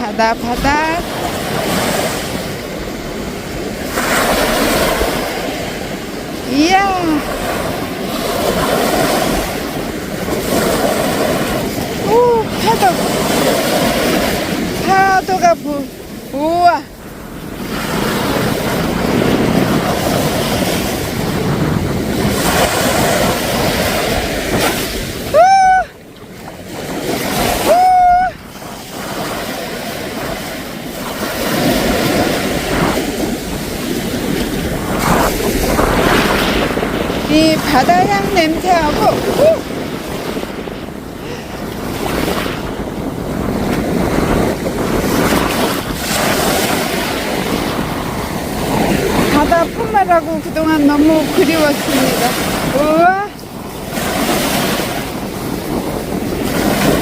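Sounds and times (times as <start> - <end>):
waves breaking on beach: 0.0 - 57.0
wind buffeting microphone: 0.0 - 57.0.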